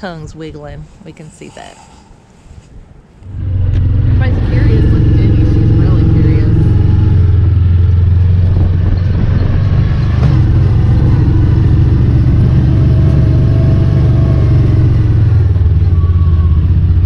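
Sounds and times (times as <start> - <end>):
vehicle engine idling: 3.2 - 17.0.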